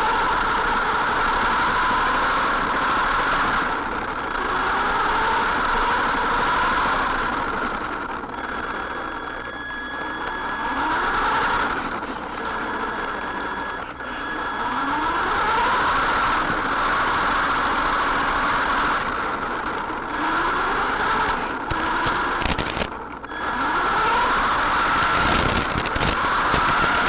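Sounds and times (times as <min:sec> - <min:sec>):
toy car motor whine: 0:00.0 - 0:27.0
tyre and road noise: 0:00.0 - 0:27.0.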